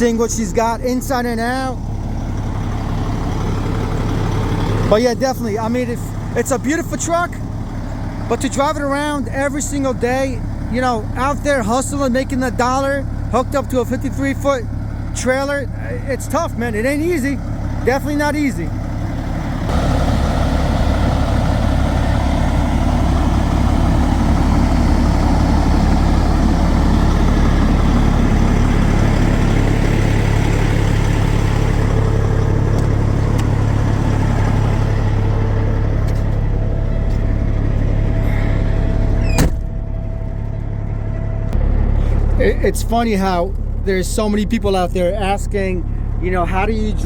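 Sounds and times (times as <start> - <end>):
truck diesel engine rumble: 0.0 - 47.0.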